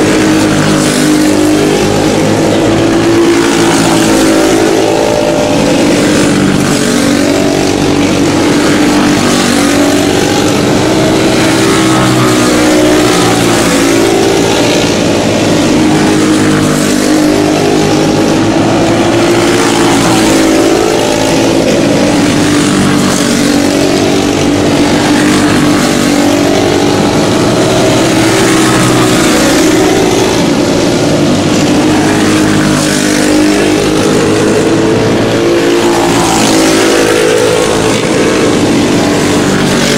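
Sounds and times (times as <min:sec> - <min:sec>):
racing kart engines: 0:00.0 - 0:39.9.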